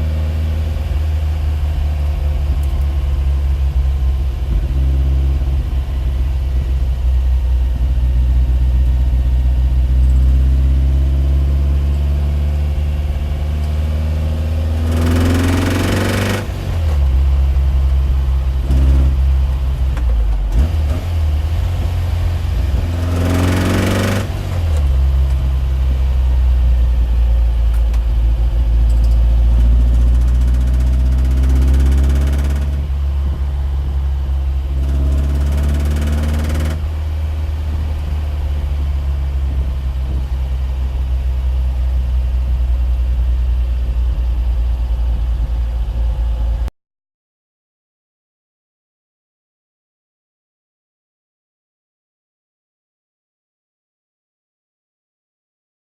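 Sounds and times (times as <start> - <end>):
engine humming and surging: 0.0 - 46.7.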